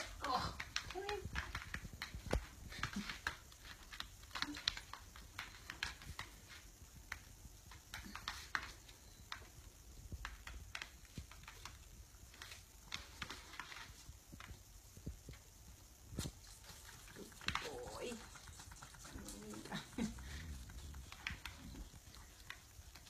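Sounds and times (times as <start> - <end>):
hooves tapping on wooden floor: 0.0 - 23.0.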